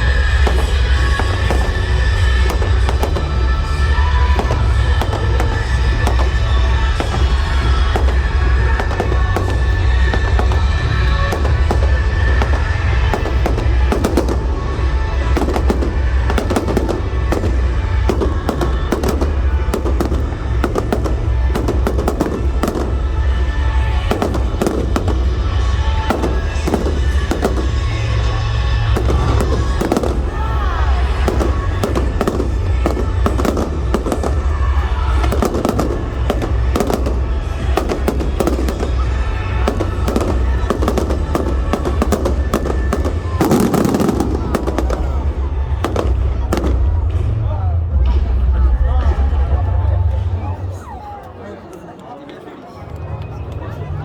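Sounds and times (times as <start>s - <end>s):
fireworks bangs and crackling: 0.0s - 50.9s
music playing: 0.0s - 51.9s.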